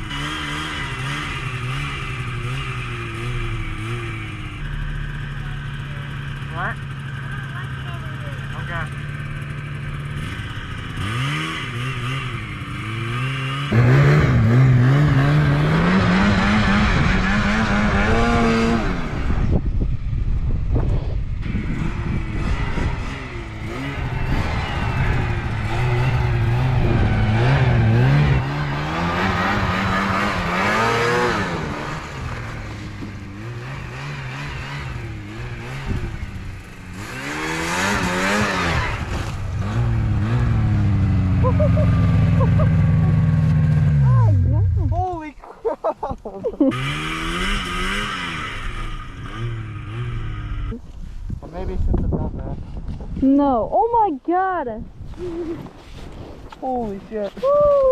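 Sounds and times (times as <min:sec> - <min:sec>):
snowmobile engine revving: 0:00.0 - 0:19.8, 0:20.9 - 0:50.8.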